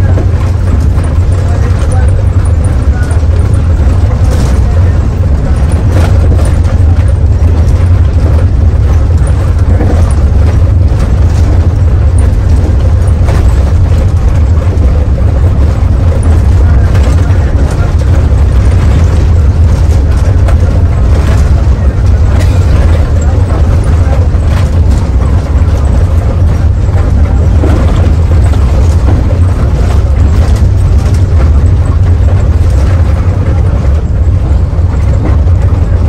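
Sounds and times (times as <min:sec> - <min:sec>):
bus diesel engine rumble: 0:00.0 - 0:36.0
road and body noise: 0:00.0 - 0:36.0.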